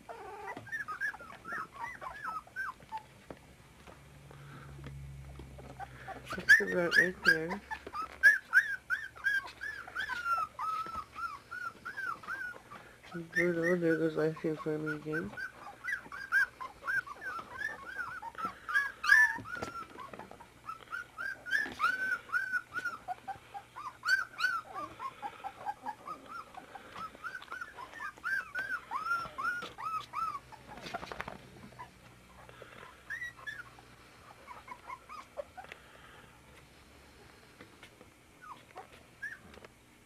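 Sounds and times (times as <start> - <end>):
puppies whimpering and squealing: 0.0 - 3.3, 5.4 - 37.5, 38.3 - 39.7.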